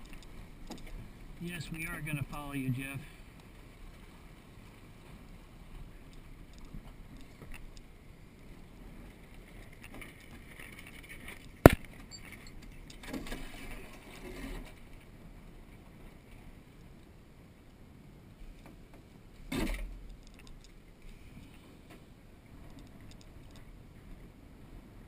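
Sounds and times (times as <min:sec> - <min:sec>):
wind and water noise: 0:00.0 - 0:25.0.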